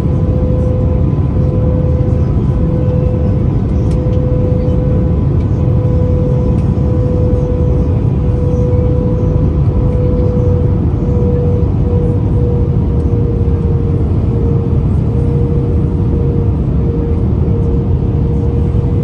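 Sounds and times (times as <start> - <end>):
airplane cabin rumble: 0.0 - 19.0
constant droning tone: 0.0 - 19.0.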